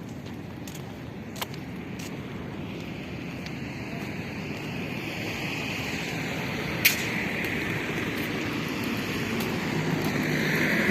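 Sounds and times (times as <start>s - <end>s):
car road noise: 0.0s - 10.9s.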